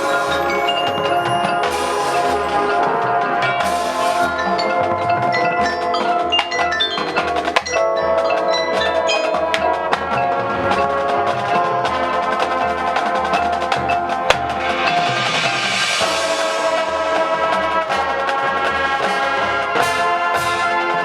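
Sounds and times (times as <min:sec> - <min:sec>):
mallet percussion ensemble: 0:00.0 - 0:18.2.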